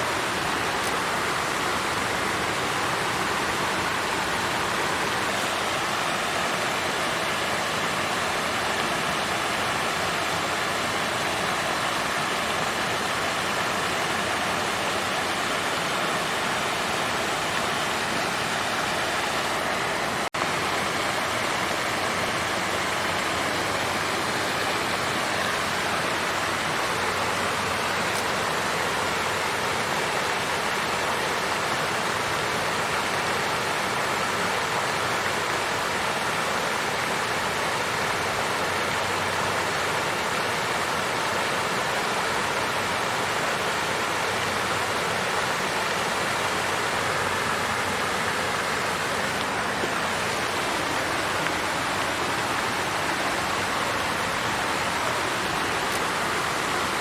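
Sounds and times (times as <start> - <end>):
water fountain splashing: 0.0 - 57.0.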